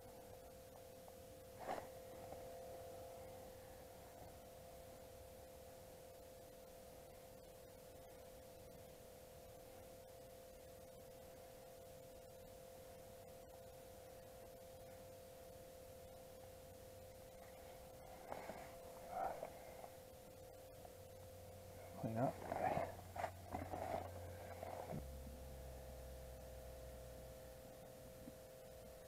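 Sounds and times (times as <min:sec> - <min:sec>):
faint electronic hum: 0:00.0 - 0:29.0.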